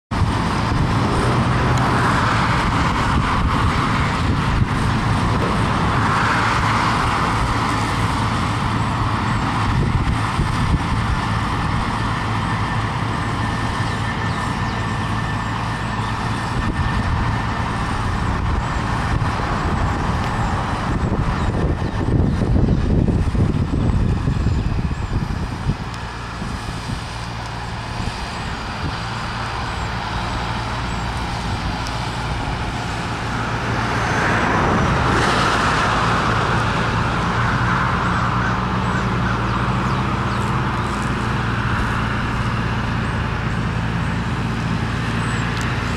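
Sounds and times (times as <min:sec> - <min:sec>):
tractor diesel engine running: 0:00.1 - 0:45.9.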